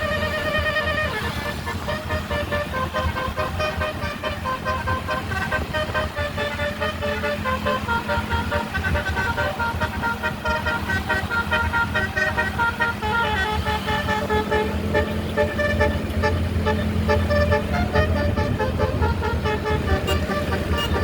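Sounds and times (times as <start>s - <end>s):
multi-tone air horn tune: 0.0s - 21.0s.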